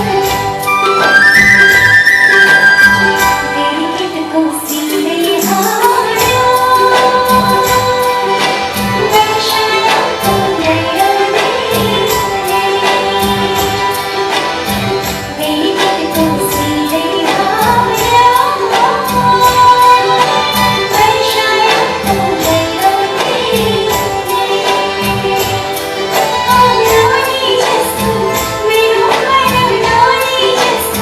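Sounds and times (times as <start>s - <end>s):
sustained instrumental accompaniment: 0.0s - 31.0s.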